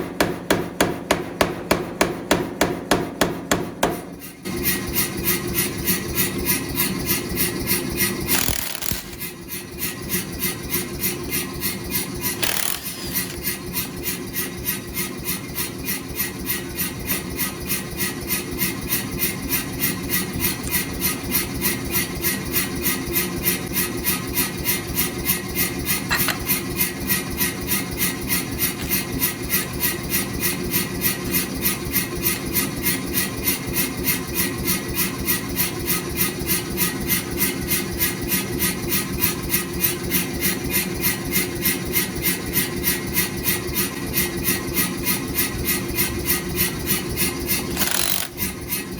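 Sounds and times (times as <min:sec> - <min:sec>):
power hammer running: 0:00.0 - 0:48.9.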